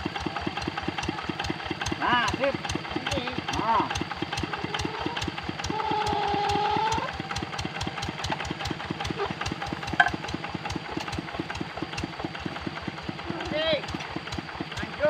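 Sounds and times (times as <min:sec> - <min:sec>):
diesel engine chugging: 0:00.0 - 0:15.0.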